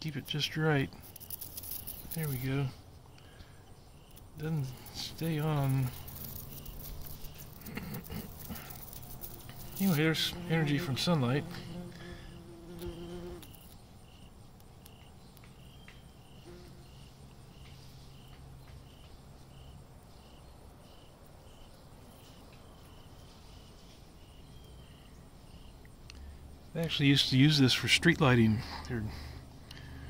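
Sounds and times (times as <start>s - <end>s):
cricket chirping: 0.0s - 30.0s.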